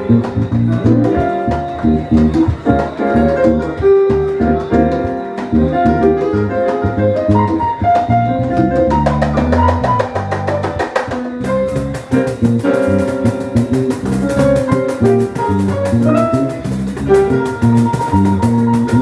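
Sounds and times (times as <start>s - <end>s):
cajon rhythm: 0.0s - 19.0s
electric bass line: 0.0s - 19.0s
electronic keyboard melody: 0.0s - 19.0s.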